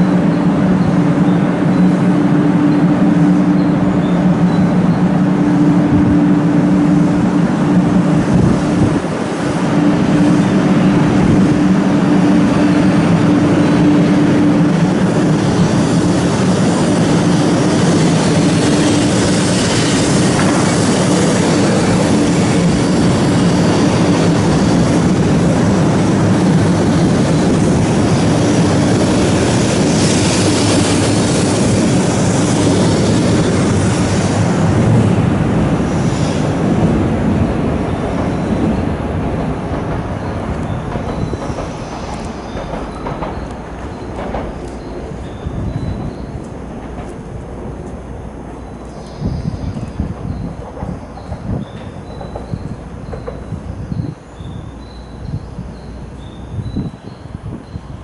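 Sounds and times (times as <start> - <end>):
train hum with low tones: 0.0 - 58.0
train running noise: 0.0 - 58.0.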